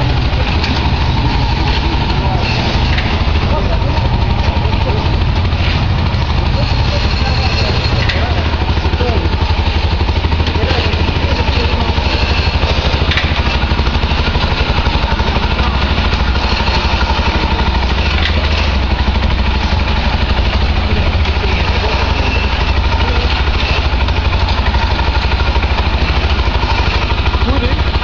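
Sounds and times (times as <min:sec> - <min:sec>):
engine running with pulsing hum: 0:00.0 - 0:28.0.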